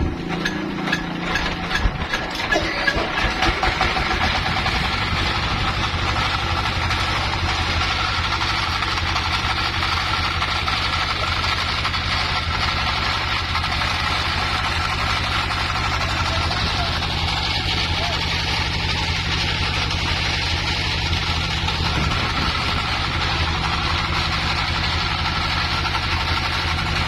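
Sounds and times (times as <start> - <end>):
constant high whine: 0.0 - 27.0
engine knocking and droning: 0.0 - 27.0.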